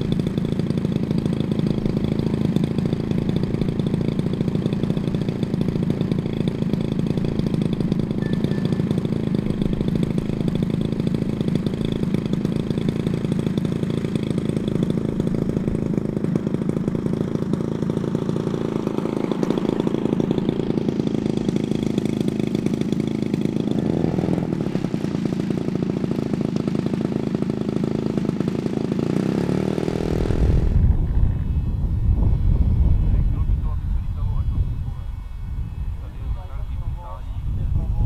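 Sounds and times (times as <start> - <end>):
model aircraft engine idling: 0.0 - 38.0.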